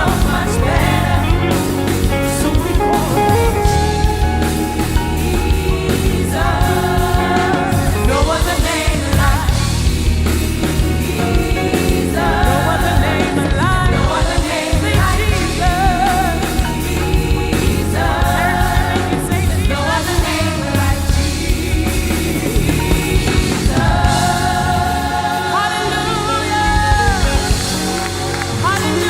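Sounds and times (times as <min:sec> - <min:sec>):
band with steady bass line: 0:00.0 - 0:29.0
singers holding drawn-out phrases: 0:00.0 - 0:29.0.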